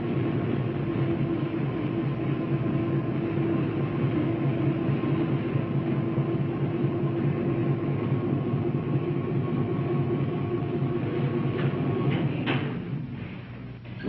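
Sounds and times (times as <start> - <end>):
train rumble and hum: 0.0 - 14.0.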